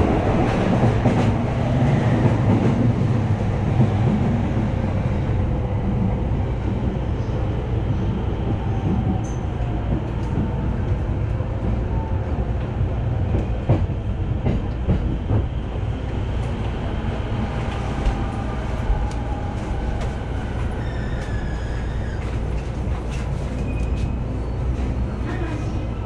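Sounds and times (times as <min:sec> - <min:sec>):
train passing alongside: 0:00.0 - 0:26.0
train rumble from inside: 0:00.0 - 0:26.0.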